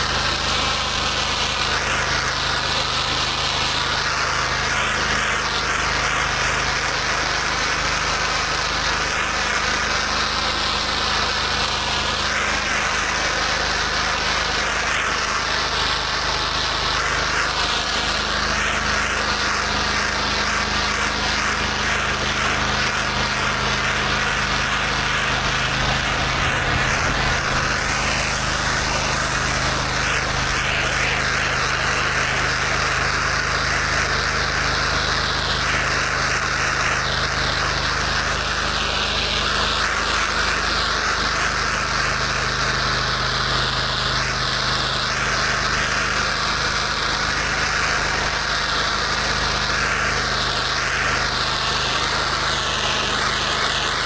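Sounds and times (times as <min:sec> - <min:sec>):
high-pressure water spraying: 0:00.0 - 0:54.0
pressure washer engine running: 0:00.0 - 0:54.0.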